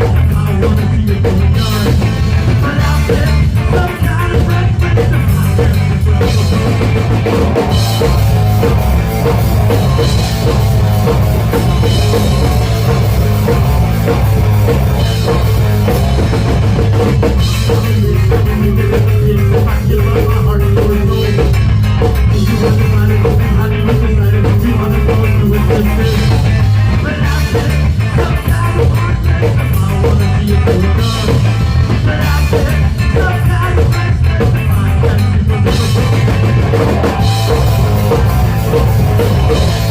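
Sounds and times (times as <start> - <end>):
rock band playing loudly: 0.0 - 39.9.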